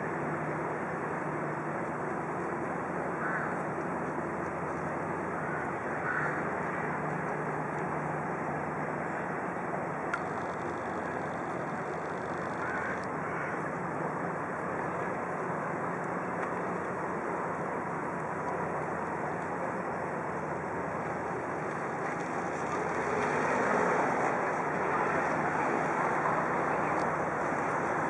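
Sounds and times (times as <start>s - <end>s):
boat diesel engines humming: 0.0s - 28.0s
traffic noise: 0.0s - 28.0s.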